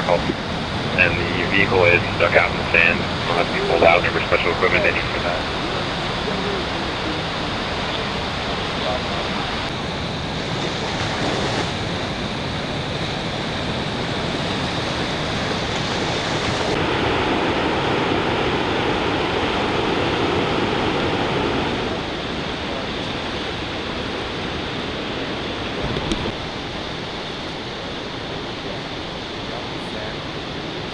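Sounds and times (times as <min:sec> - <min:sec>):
ocean surf breaking: 0:00.0 - 0:27.6.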